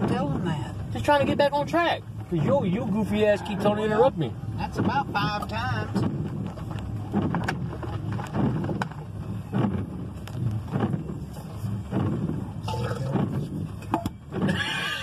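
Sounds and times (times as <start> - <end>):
low rumble inside vehicle cab: 0.0 - 15.0.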